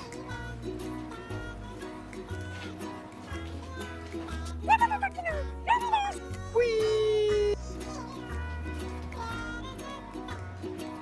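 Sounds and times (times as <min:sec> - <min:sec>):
light instrumental tune: 0:00.0 - 0:11.0.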